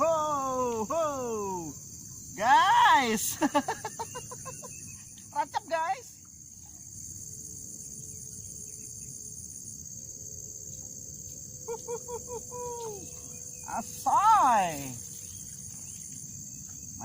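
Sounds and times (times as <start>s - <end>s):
insects droning in chorus: 0.0s - 17.0s.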